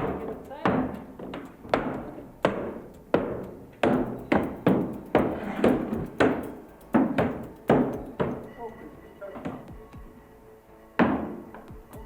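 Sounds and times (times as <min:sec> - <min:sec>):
hammer blows ringing: 0:00.0 - 0:09.8.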